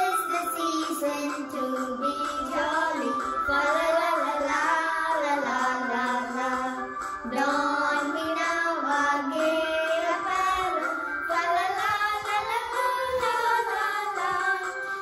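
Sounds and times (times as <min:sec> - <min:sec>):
woman and children singing: 0:00.0 - 0:15.0.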